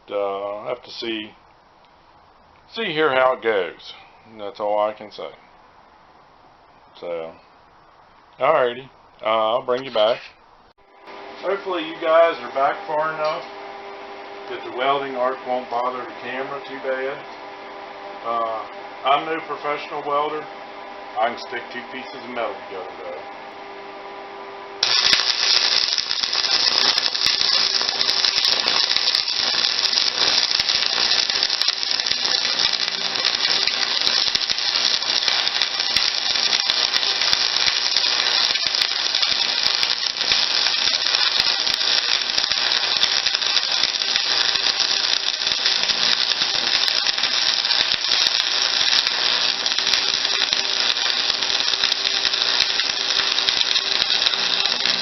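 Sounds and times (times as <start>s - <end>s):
arc welder crackling: 8.3s - 55.0s.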